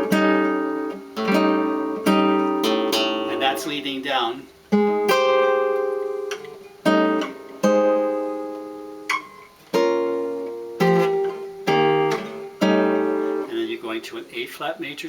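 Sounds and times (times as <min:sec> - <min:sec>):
guitar chords ringing: 0:00.0 - 0:14.9.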